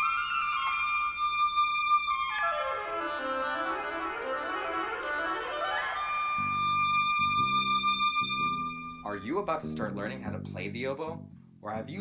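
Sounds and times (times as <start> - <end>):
oboe playing: 0.0 - 9.7
lower accompanying notes: 0.0 - 12.0.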